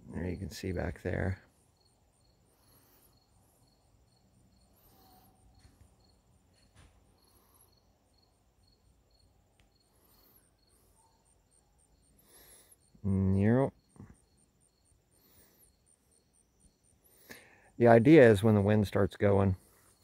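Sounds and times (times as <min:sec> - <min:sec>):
faint insect chirping: 0:00.0 - 0:20.0.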